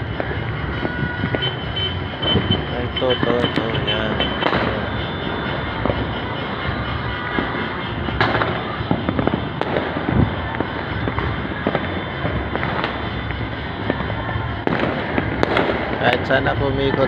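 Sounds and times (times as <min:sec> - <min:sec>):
distant fireworks crackling: 0:00.0 - 0:17.0
firecracker bangs: 0:00.0 - 0:17.0.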